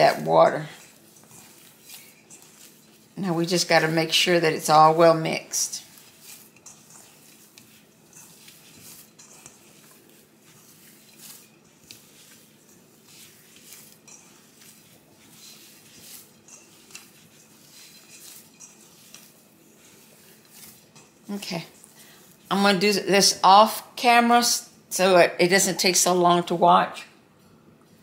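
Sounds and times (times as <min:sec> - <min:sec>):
hand kneading dough: 0:00.0 - 0:24.3.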